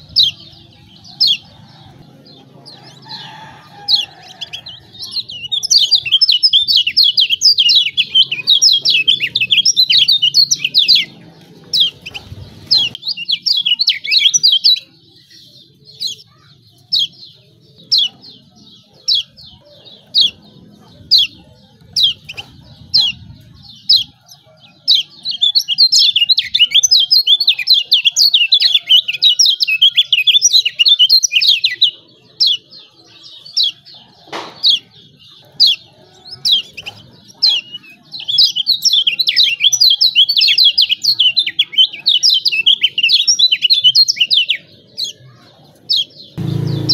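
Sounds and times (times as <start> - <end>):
bird chirping and chattering: 0.0 - 46.9.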